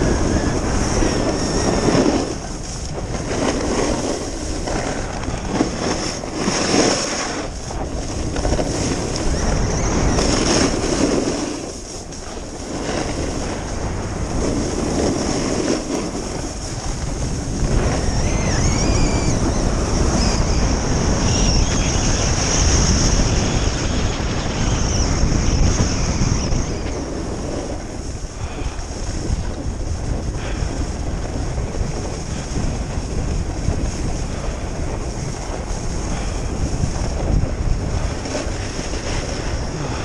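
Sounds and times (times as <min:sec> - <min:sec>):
skis hissing over snow: 0:00.0 - 0:40.0
wind buffeting microphone: 0:00.0 - 0:40.0.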